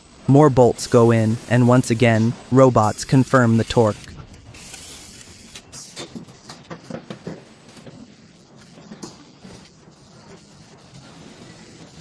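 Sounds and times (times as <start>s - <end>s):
steady low factory hum: 0.0s - 12.0s.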